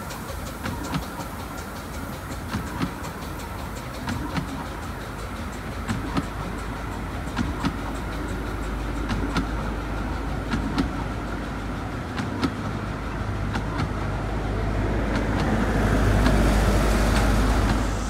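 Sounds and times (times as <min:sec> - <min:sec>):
train coaches rumbling past: 0:00.0 - 0:18.0
wheel clicks on track: 0:00.0 - 0:18.0.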